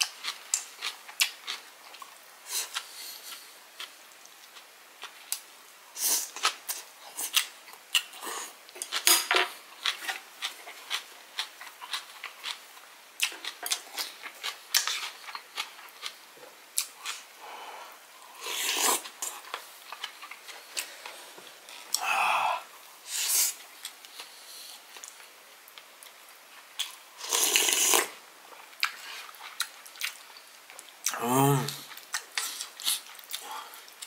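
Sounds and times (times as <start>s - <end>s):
man chewing: 0.0s - 5.4s, 6.0s - 17.4s, 18.3s - 34.0s.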